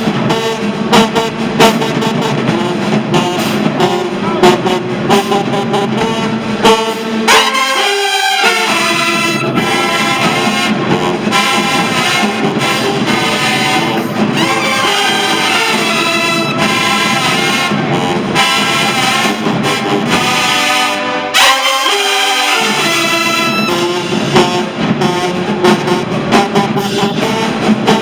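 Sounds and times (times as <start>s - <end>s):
marching band brass playing: 0.0s - 28.0s.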